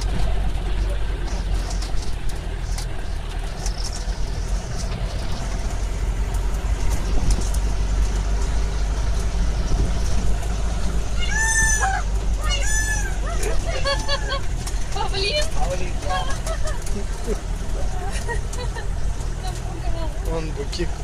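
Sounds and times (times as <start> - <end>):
light rattles: 0.0 - 21.0
road rumble: 0.0 - 21.0
vehicle engine driving: 0.0 - 21.0.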